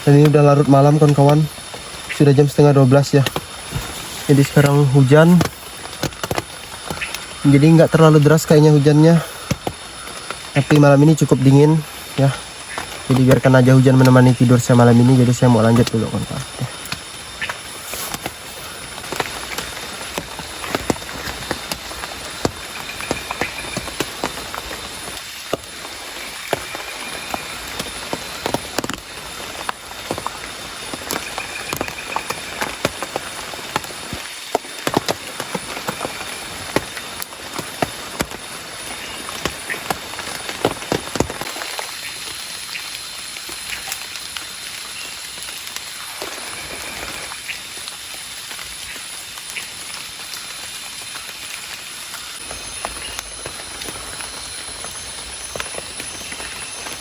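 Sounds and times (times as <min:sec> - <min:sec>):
rain patter and drips: 0:00.0 - 0:57.0.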